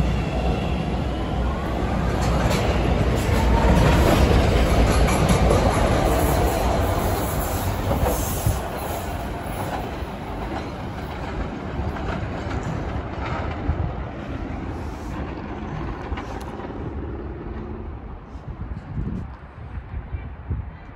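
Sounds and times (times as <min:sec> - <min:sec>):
train running on rails: 0:00.0 - 0:20.9.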